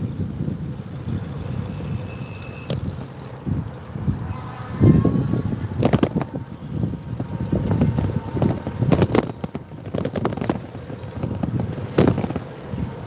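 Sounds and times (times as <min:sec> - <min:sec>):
motorbike rumble: 0:00.0 - 0:13.0
wind buffeting microphone: 0:00.0 - 0:13.0.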